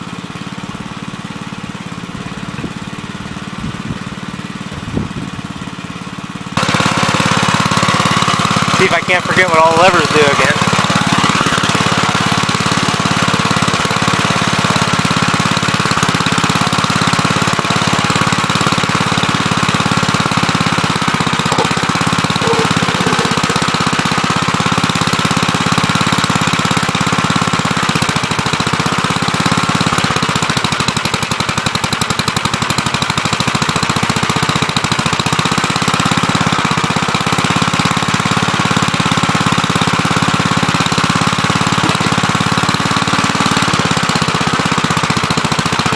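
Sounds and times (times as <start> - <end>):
backhoe engine running: 0.0 - 45.9.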